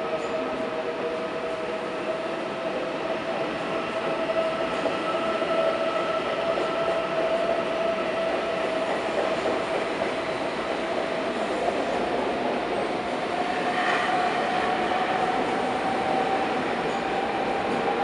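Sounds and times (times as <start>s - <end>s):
train rolling noise: 0.0s - 18.0s
train whine: 0.0s - 18.0s.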